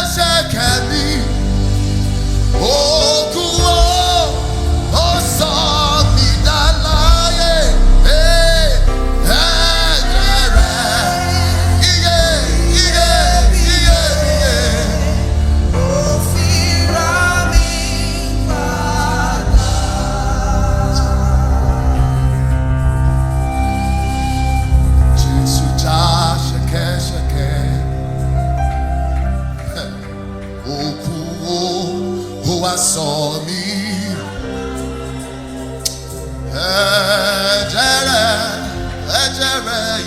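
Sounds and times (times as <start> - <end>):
instrumental accompaniment with heavy bass: 0.0 - 40.0
person singing long wavering notes: 2.6 - 40.0.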